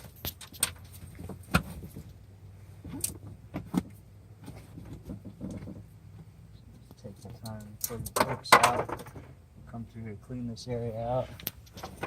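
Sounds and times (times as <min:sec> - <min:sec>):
carpet rustling: 0:00.0 - 0:09.3, 0:11.2 - 0:12.0.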